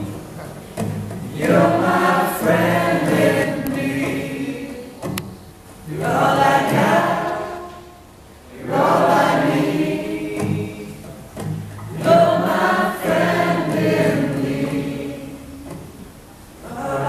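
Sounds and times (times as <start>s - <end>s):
acoustic guitars: 0.0s - 17.0s.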